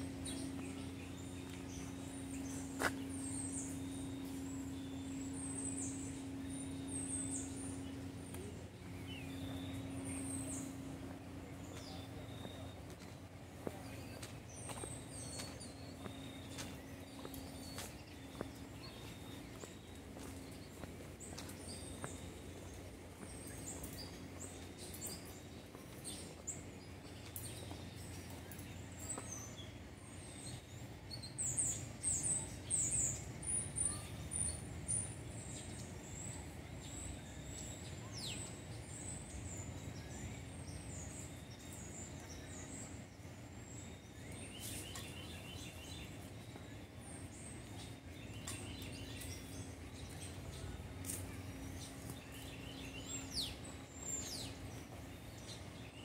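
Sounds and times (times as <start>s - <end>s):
faint low hum: 0.0s - 56.0s
small birds chirping: 0.0s - 56.0s.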